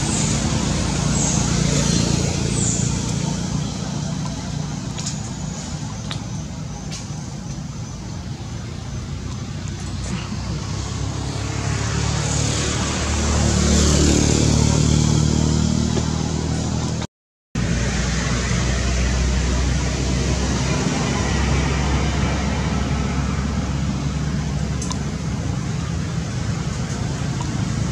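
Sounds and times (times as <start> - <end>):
vehicle engine passing: 0.0 - 27.9.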